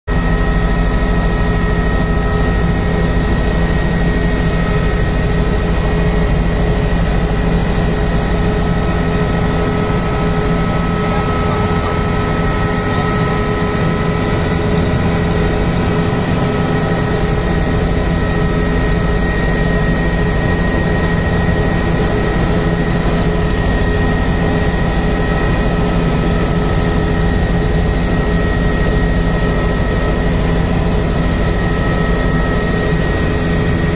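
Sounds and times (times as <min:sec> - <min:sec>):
helicopter turbine whine and rotor: 0:00.1 - 0:33.9.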